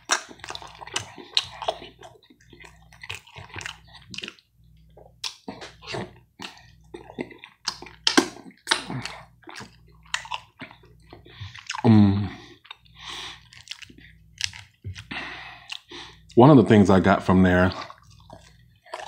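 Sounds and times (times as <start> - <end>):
person chewing with lip smacks: 0.0 - 11.9, 12.5 - 16.4, 17.7 - 19.0.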